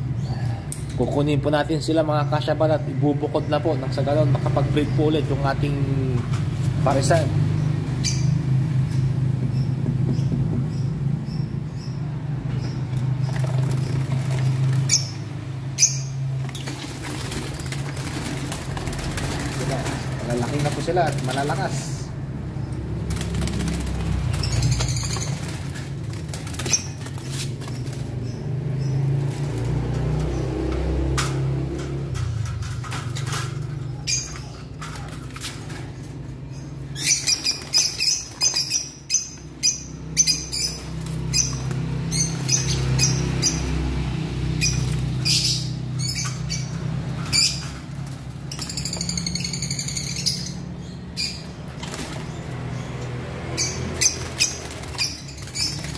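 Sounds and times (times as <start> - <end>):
birds fluttering in a wire cage: 0.0 - 55.9.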